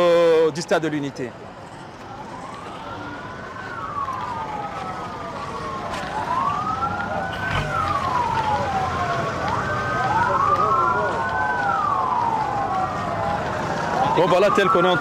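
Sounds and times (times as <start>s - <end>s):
vehicle sirens wailing: 0.0s - 15.0s.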